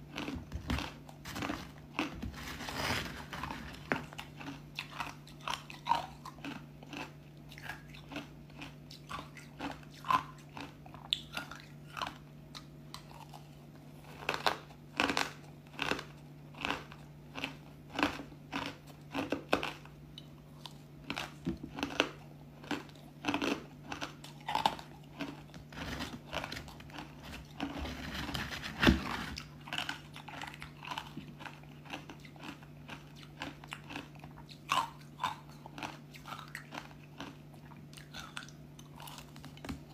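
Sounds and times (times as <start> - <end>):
ice crunching and chewing: 0.0 - 39.9.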